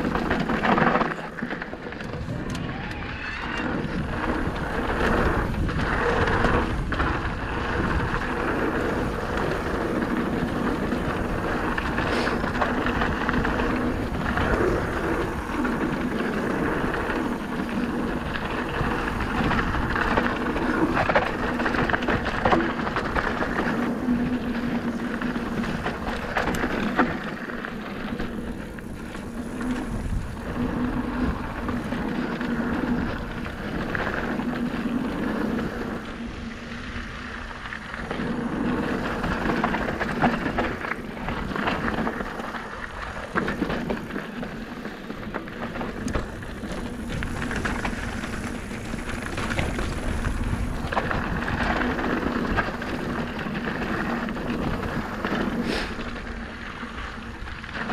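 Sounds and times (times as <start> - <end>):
bike clicks and rattles: 0.0 - 57.9
bike tyres on dirt: 0.0 - 57.9.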